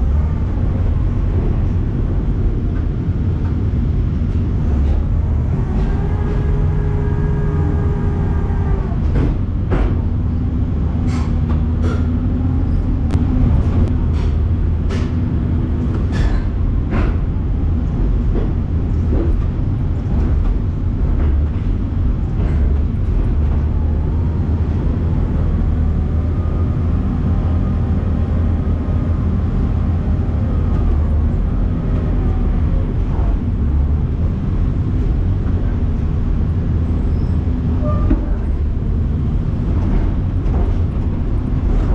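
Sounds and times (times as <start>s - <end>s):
heavy machinery rumbling: 0.0s - 41.9s.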